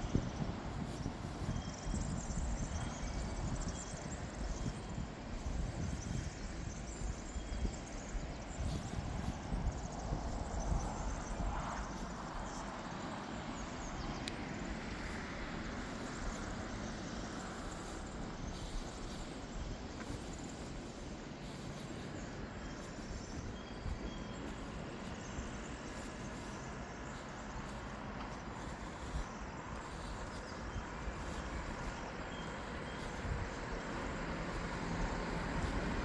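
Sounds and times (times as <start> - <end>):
faint birds chirping: 0.0 - 36.0.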